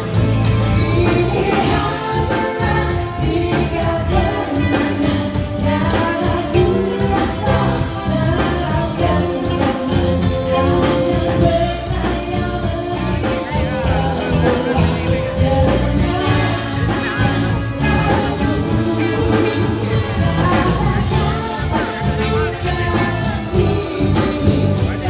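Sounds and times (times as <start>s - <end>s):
electric guitars: 0.0s - 25.0s
steady drum beat: 0.0s - 25.0s
woman singing: 0.0s - 25.0s.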